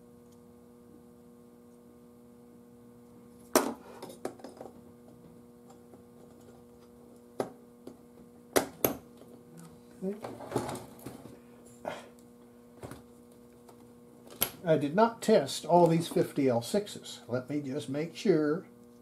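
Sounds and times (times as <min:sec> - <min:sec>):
low mains hum: 0:00.0 - 0:19.0.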